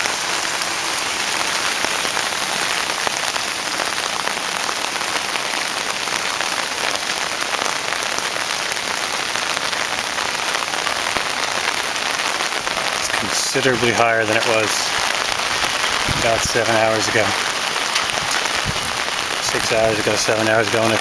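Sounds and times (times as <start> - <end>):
rain falling on wet pavement: 0.0 - 21.0.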